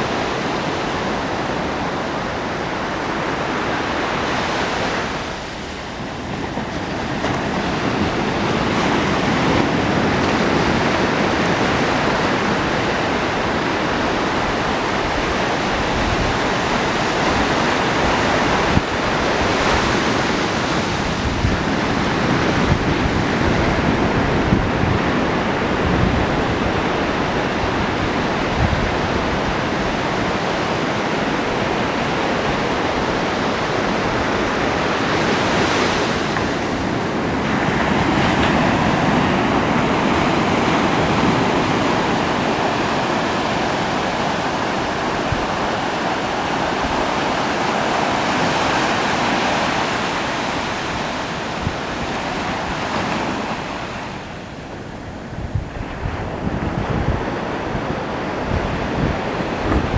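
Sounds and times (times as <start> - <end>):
ocean surf washing on beach: 0.0 - 59.9.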